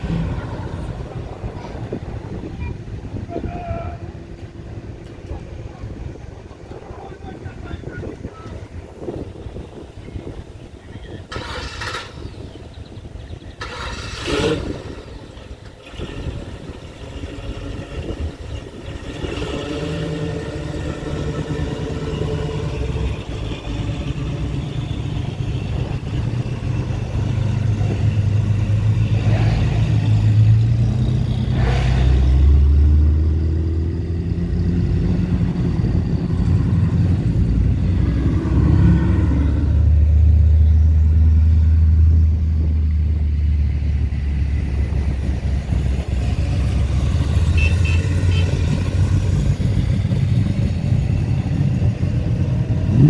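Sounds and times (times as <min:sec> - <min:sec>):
cars driving past: 0:00.0 - 0:53.0
deep engine rumble: 0:00.0 - 0:53.0.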